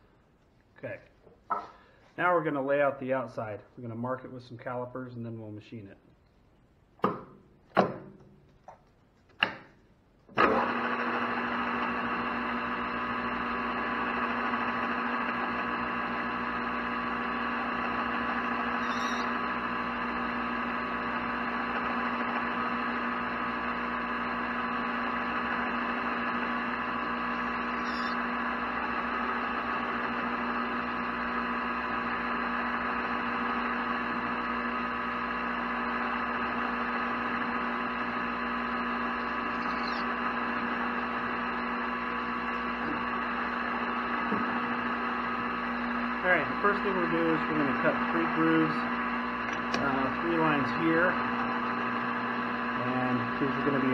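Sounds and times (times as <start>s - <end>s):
metal lathe running: 10.4s - 53.9s.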